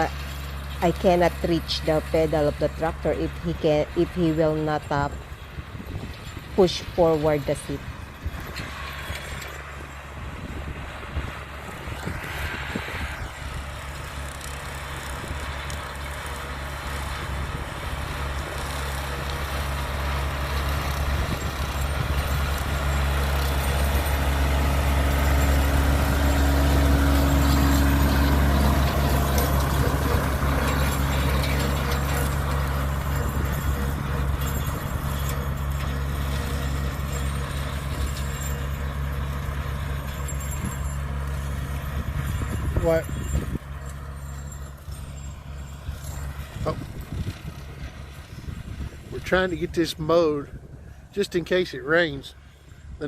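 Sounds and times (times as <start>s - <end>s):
tractor engine with rotary mower: 0.0s - 53.0s.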